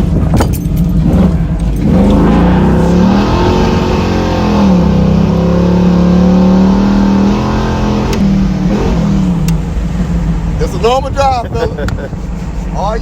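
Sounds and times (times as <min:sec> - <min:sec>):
car engine pulling: 0:00.0 - 0:13.0.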